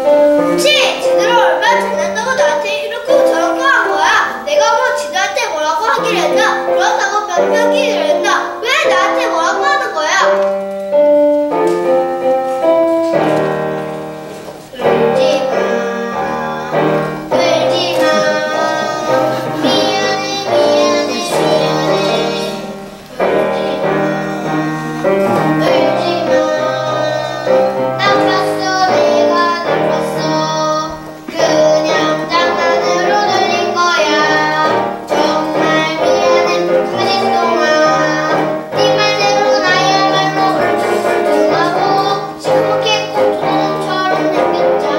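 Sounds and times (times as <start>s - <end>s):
children singing: 0.0s - 10.6s, 11.5s - 44.9s
musical accompaniment: 0.0s - 44.9s.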